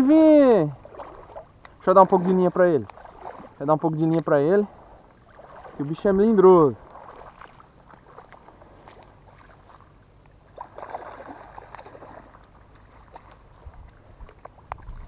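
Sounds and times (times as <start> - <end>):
fish splashing in water: 0.7 - 3.6, 4.7 - 15.0.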